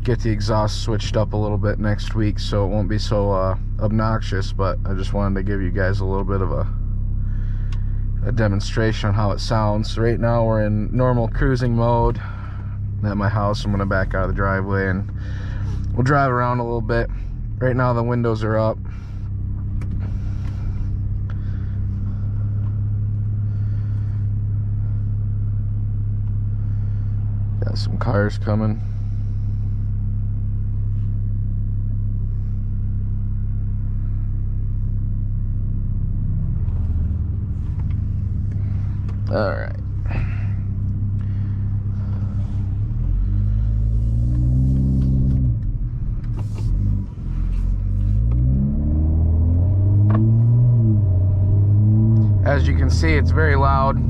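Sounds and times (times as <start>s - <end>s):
loud low car exhaust note: 0.0s - 54.0s.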